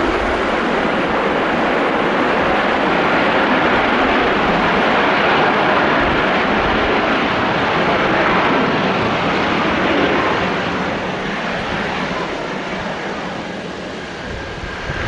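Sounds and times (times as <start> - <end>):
jet engines running loud: 0.0 - 15.0.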